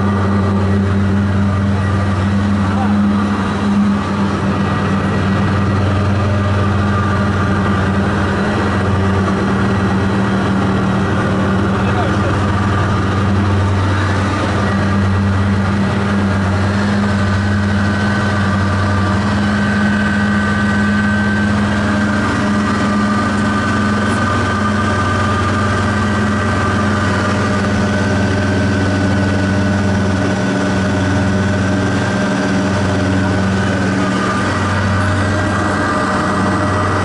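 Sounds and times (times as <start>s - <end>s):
aircraft engine and propeller droning: 0.0s - 37.0s.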